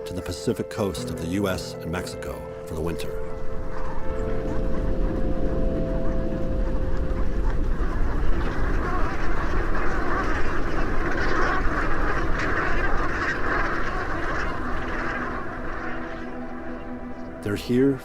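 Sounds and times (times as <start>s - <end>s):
flock of geese calling: 0.0s - 18.0s.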